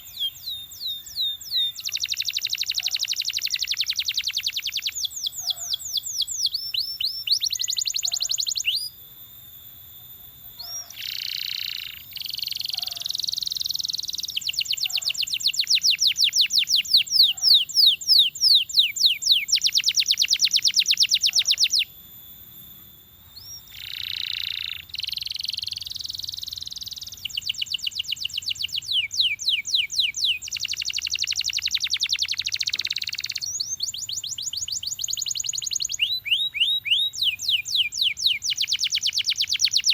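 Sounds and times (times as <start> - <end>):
canary singing trills: 0.0 - 9.0, 10.1 - 22.0, 22.7 - 39.9.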